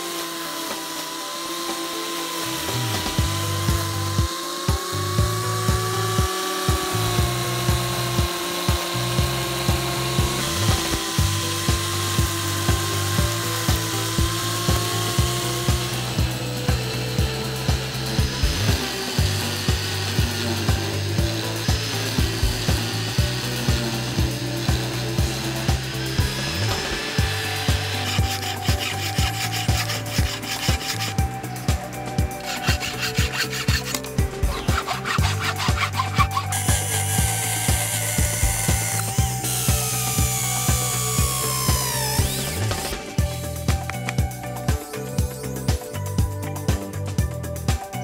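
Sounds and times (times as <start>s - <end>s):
angle grinder cutting grass: 0.0s - 47.0s
background music with steady beat: 0.0s - 48.0s.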